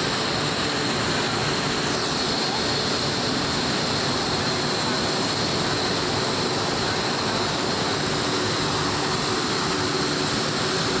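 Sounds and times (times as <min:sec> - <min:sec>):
blast furnace roaring: 0:00.0 - 0:11.0.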